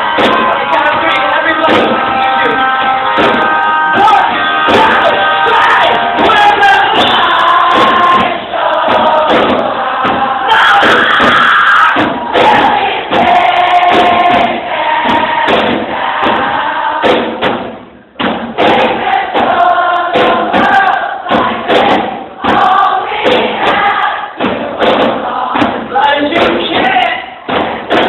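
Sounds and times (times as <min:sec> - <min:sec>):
crowd singing along: 0:00.0 - 0:28.0.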